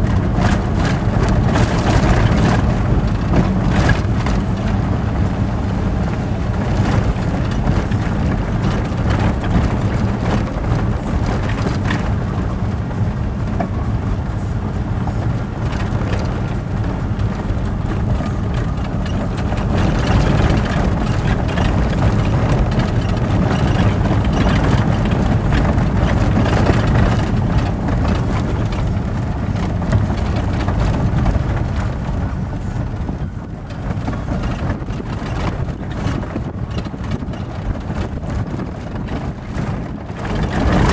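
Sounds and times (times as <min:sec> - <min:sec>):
knocks and rattles from rough road: 0:00.0 - 0:40.9
vehicle engine and tyre rumble: 0:00.0 - 0:40.9.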